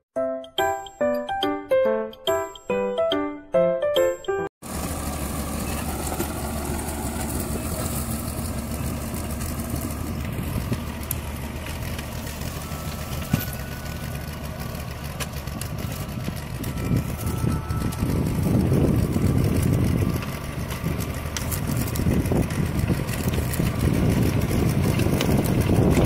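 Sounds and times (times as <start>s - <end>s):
tractor engine running: 4.6s - 26.0s.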